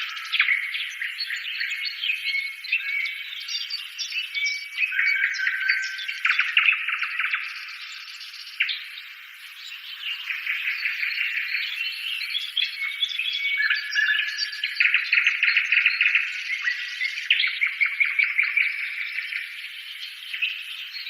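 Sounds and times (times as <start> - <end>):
birds chittering and whistling: 0.0 - 21.0.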